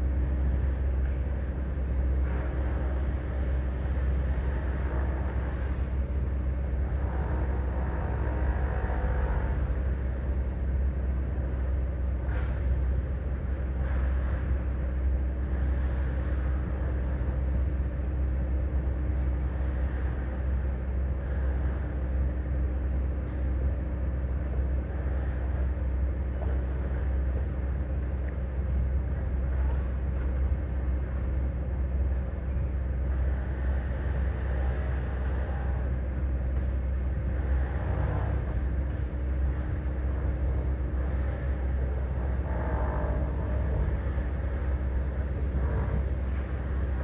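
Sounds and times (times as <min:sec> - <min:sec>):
diesel machinery rumbling: 0:00.0 - 0:47.0.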